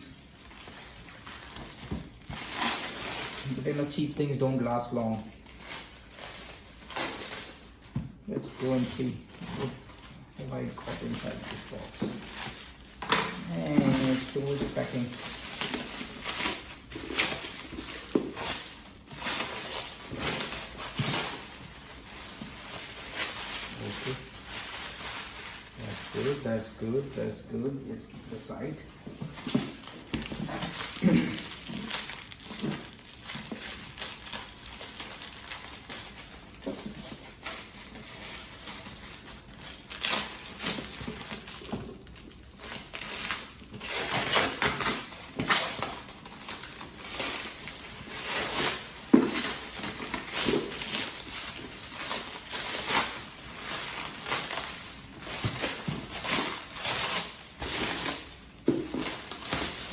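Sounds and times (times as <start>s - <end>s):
packaging crinkling and rustling: 0.0s - 59.9s.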